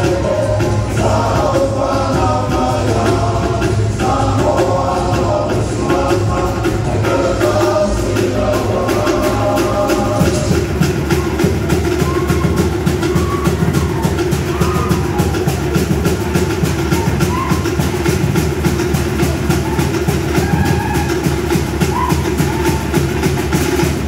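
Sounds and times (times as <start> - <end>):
fast drumbeat: 0.0 - 24.0
group singing: 0.0 - 24.0.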